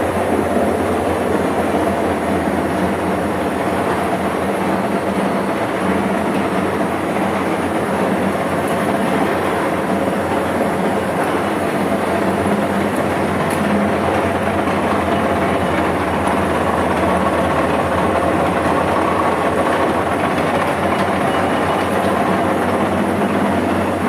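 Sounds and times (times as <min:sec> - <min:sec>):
machine rumbling and hissing: 0:00.0 - 0:24.0.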